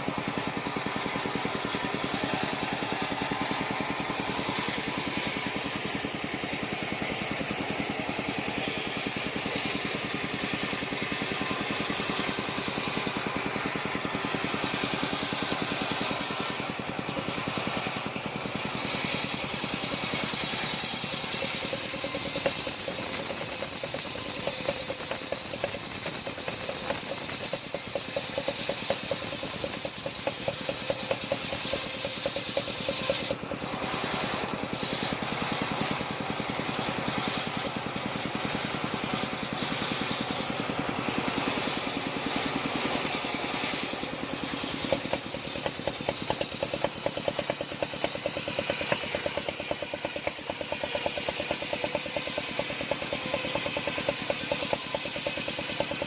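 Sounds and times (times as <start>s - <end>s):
engine-driven circular saw running: 0.0s - 56.0s.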